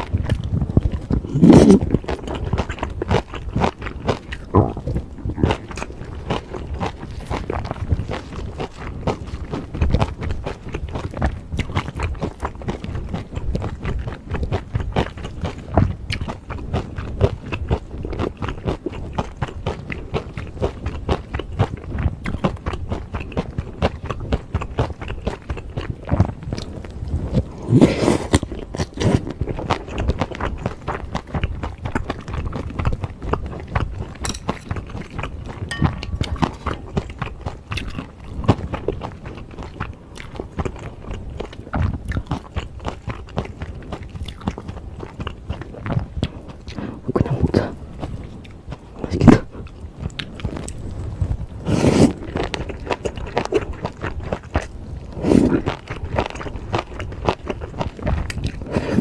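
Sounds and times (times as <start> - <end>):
person chewing food: 0.0 - 59.0
wet chewing clicks with crunch: 0.0 - 59.0.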